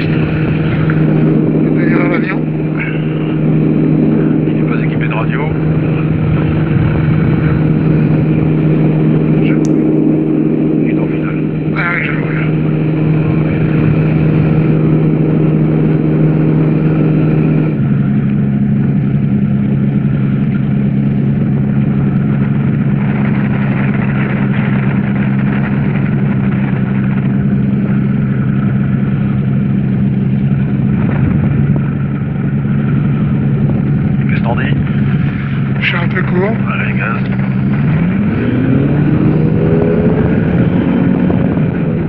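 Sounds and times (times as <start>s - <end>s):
microlight engine and propeller: 0.0s - 42.0s.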